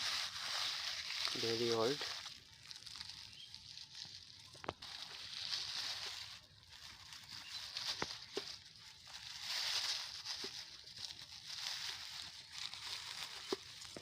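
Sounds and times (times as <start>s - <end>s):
plastic rubbish crinkling: 0.0s - 14.0s.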